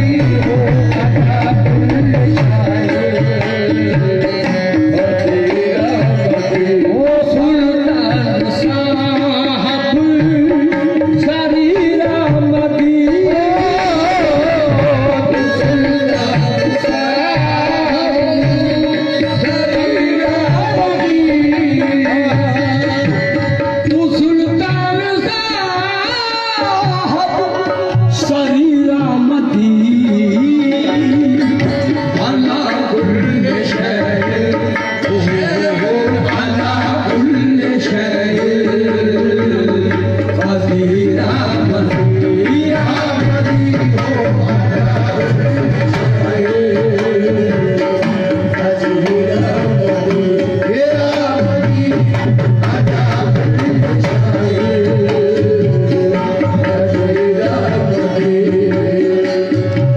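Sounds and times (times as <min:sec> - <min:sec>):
hand drums: 0:00.0 - 0:59.9
harmonium: 0:00.0 - 0:59.9
person singing: 0:00.0 - 0:59.9.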